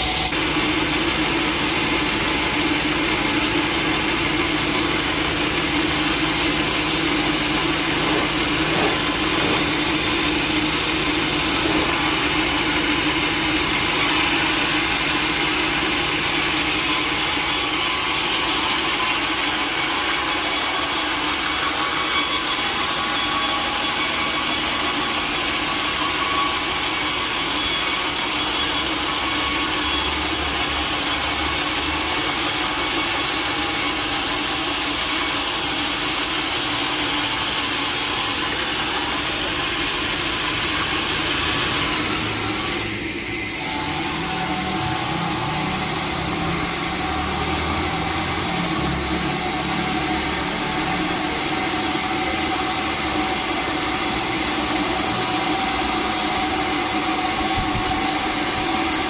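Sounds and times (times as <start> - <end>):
saw blade rasping through log: 0.0 - 59.0.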